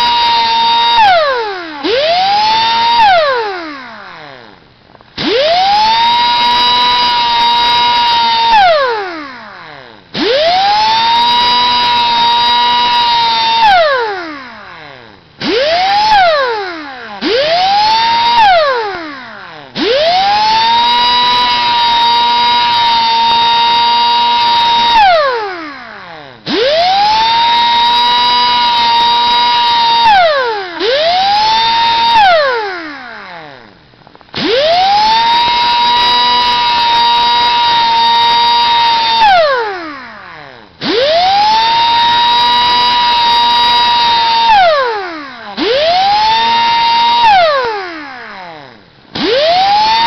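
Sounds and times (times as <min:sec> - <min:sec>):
electric grinder whining: 0:00.0 - 0:50.0.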